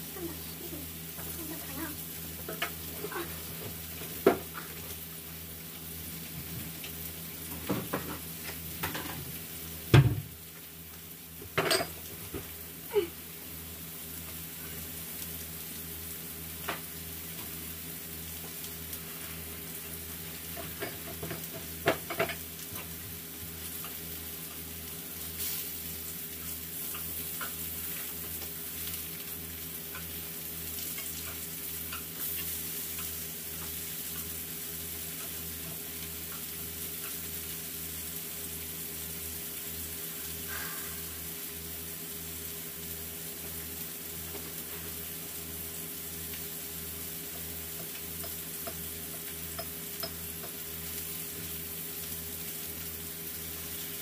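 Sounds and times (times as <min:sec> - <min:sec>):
meat patties sizzling in oil: 0:00.0 - 0:54.0.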